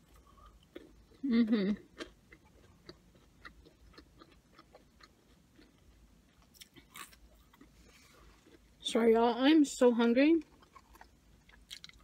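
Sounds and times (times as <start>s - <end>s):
chewing fries: 0.0s - 9.0s, 10.4s - 12.0s.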